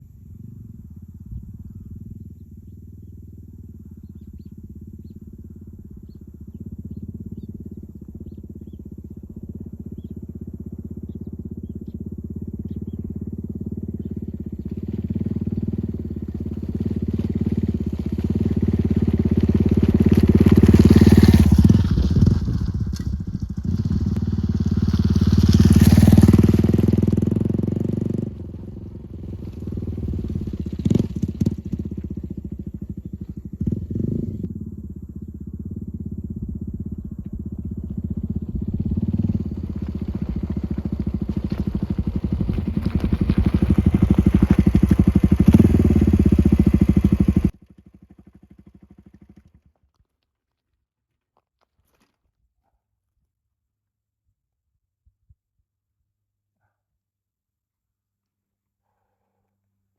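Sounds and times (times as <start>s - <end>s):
motorcycle engine running: 0.0s - 50.1s.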